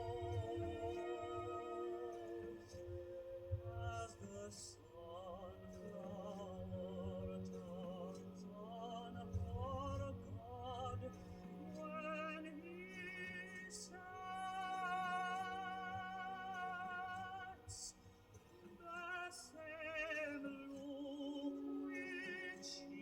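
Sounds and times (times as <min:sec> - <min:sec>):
opera singing on a record: 0:00.0 - 0:23.0.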